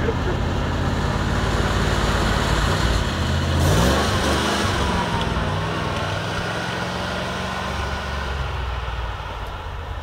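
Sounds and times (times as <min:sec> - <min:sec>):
truck engine revving: 0:00.0 - 0:09.2.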